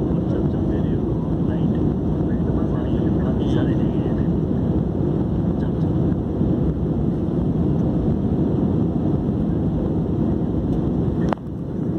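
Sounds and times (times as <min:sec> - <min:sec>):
jet airliner cabin rumble: 0:00.0 - 0:11.9.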